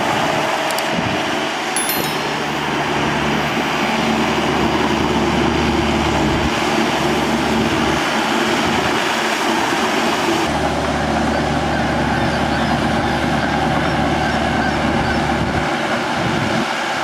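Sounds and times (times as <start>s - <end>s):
tractor diesel engine running: 2.4s - 16.4s.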